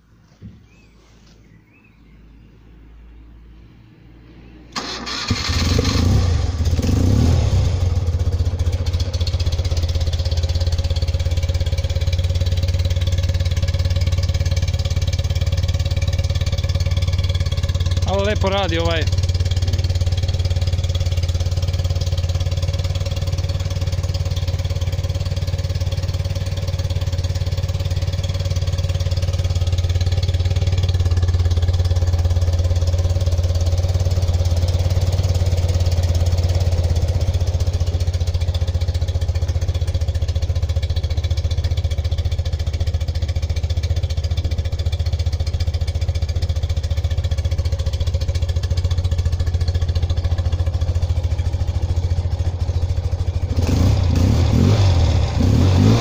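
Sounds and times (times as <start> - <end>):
motorcycle engine idling: 4.7 - 56.0.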